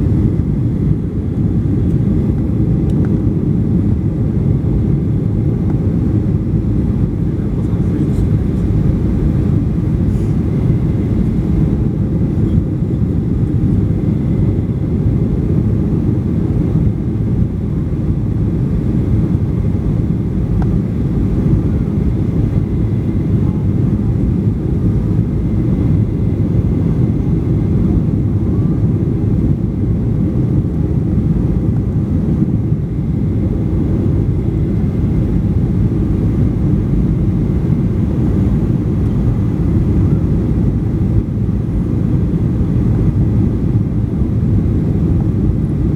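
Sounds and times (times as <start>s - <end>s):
airplane cabin engine rumble: 0.0s - 45.9s
faint steady whine: 0.0s - 45.9s.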